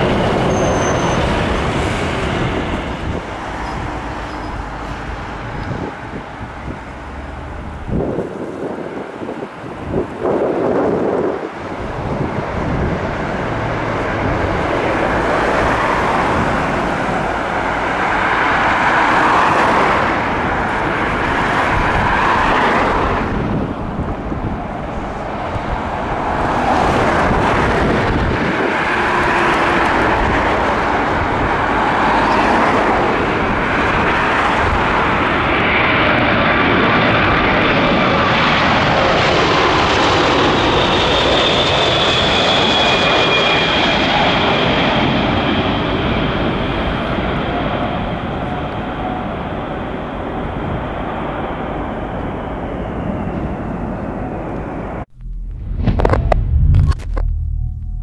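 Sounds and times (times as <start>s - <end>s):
high engine whine: 0.0s - 47.7s, 48.3s - 58.0s
jet engines roaring: 0.0s - 58.0s.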